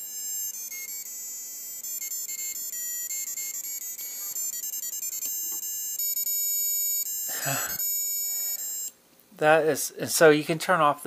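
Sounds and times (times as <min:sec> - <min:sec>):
electronic beeping tune: 0:00.0 - 0:08.9.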